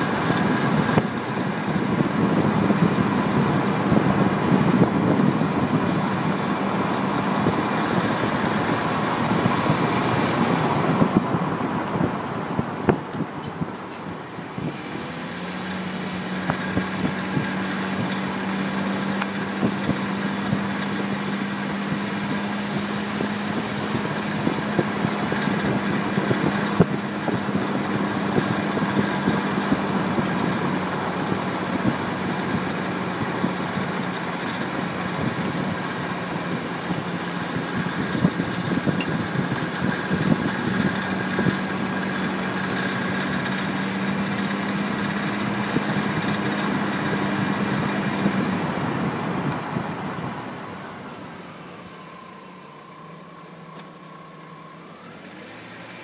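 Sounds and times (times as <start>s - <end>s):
car engine under load: 0.0s - 56.0s
tyre and road noise: 0.0s - 56.0s.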